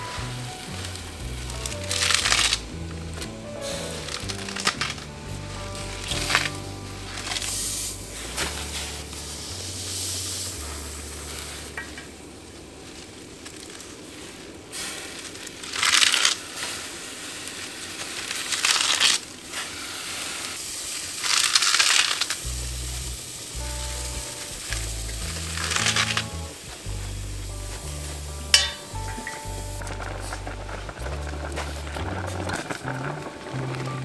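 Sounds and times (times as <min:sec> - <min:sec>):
low steady hiss: 0:00.0 - 0:34.0
leafy greens rustling and crunching: 0:00.1 - 0:23.0, 0:23.6 - 0:34.0.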